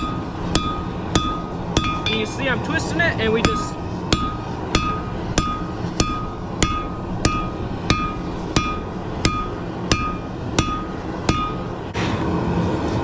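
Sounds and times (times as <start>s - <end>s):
hammer striking metal on anvil: 0.0s - 2.5s, 3.4s - 11.9s
low rumble: 0.0s - 13.0s.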